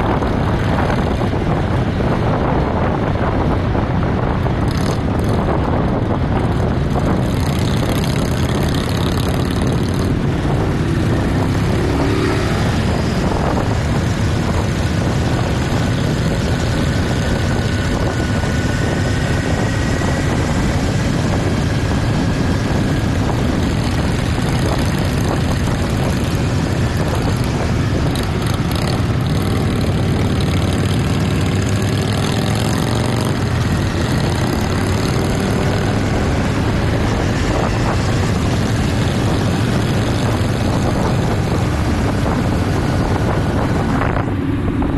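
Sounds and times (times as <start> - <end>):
motorcycle engine drone: 0.0 - 44.9
wind rushing over microphone: 0.0 - 44.9.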